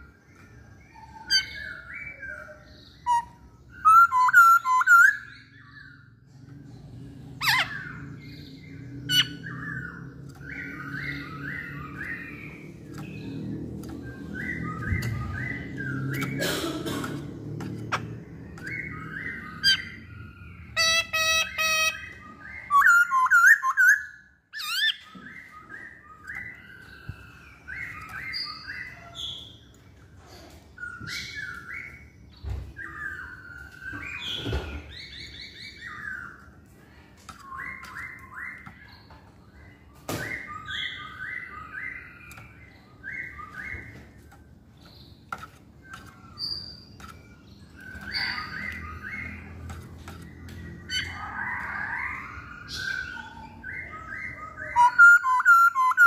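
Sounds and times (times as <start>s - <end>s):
bird song with whistled notes: 0.0s - 16.5s, 17.7s - 30.1s, 30.8s - 56.0s.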